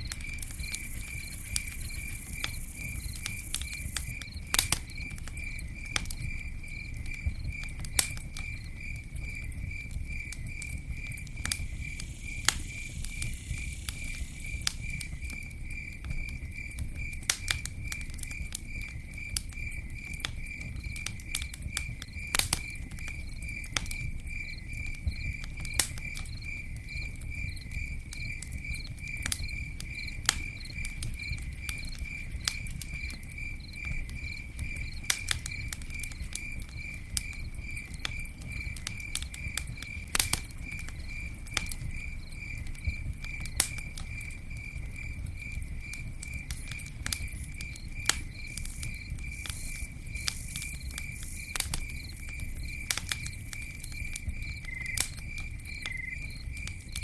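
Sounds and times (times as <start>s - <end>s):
campfire crackling: 0.0s - 57.0s
cricket chirping: 0.0s - 57.0s.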